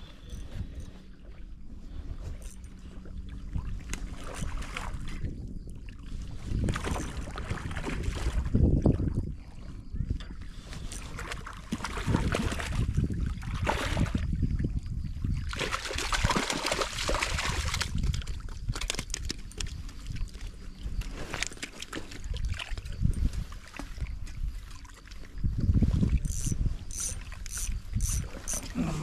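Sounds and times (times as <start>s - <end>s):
water sloshing and trickling: 0.0s - 29.0s.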